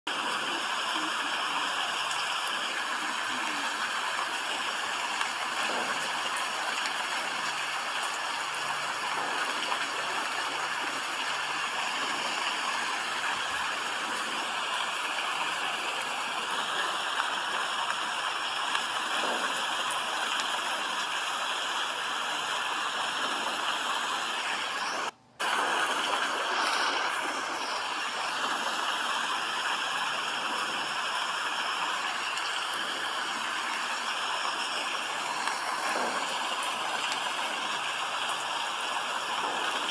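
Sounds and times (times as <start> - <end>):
steady rain hiss: 0.1 - 39.9.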